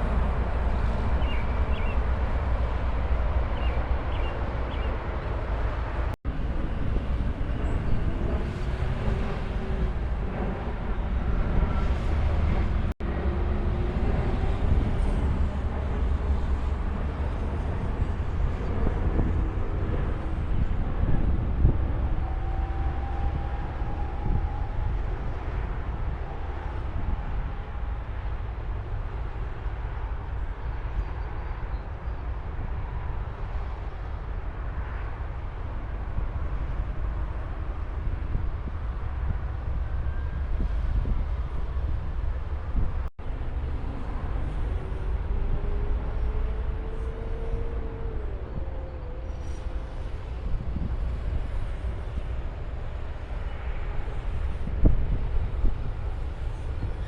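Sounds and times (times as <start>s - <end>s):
highway traffic rumble: 0.0s - 57.0s
trucks and cars passing: 0.0s - 57.0s.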